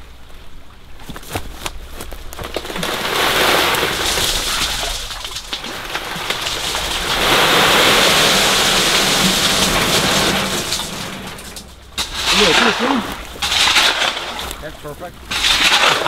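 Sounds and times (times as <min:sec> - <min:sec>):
stones splashing into water: 0:01.0 - 0:16.0
gravel rattling off metal tray: 0:02.3 - 0:16.0.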